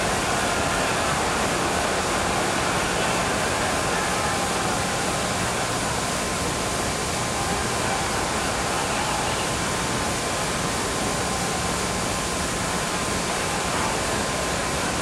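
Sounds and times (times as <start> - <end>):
faint arena crowd noise: 0.0 - 15.0.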